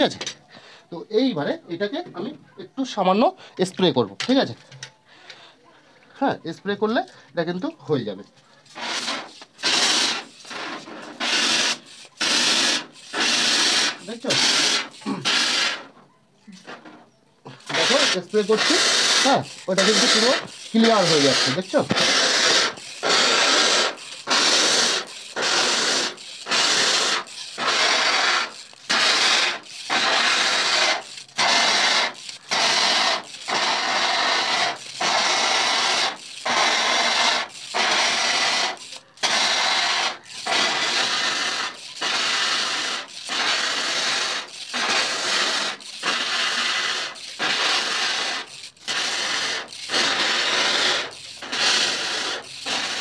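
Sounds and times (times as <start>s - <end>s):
water jet hissing on mesh: 8.7s - 15.9s, 17.5s - 53.0s.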